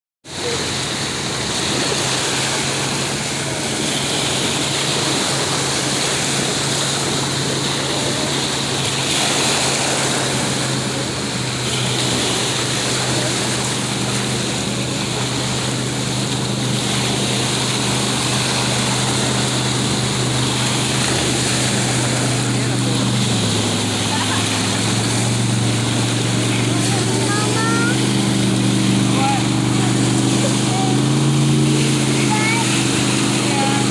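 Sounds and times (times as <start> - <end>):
motorboat engine humming: 0.2 - 33.9
wind and water hiss: 0.3 - 33.9.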